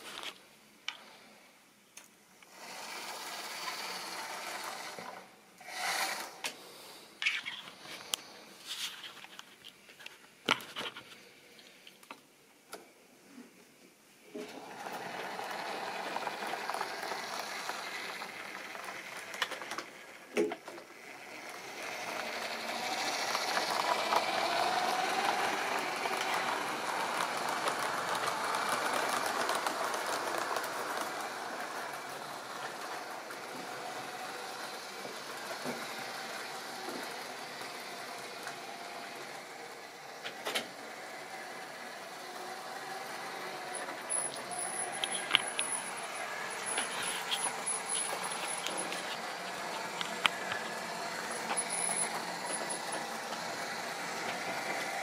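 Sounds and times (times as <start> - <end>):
model train whir and wheel rattle: 2.4 - 6.6, 14.4 - 55.0.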